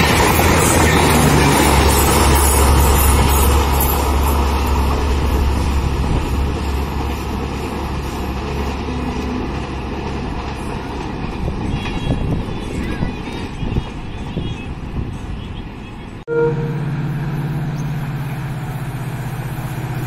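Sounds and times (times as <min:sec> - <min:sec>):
train wheels rumbling over rails: 0:00.0 - 0:20.0.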